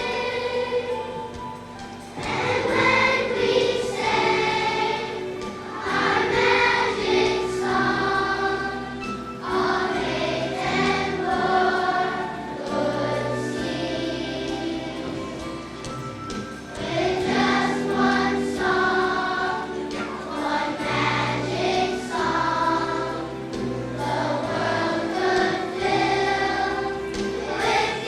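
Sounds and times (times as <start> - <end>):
children's choir singing: 0.0 - 28.0.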